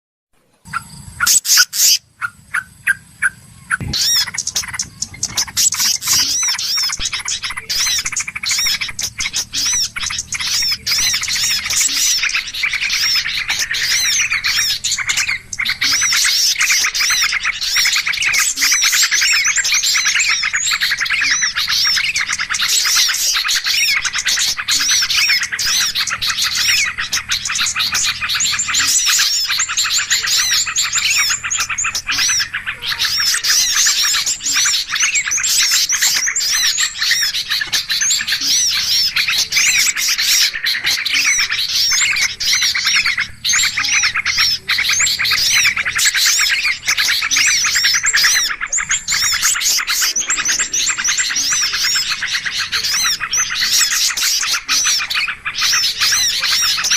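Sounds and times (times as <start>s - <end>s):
small birds chirping in chorus: 0.4s - 56.9s.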